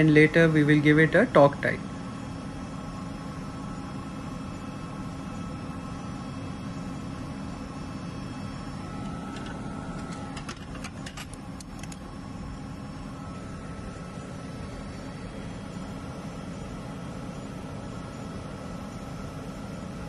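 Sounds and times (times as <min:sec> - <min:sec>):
engine room machinery droning: 0:00.0 - 0:20.0.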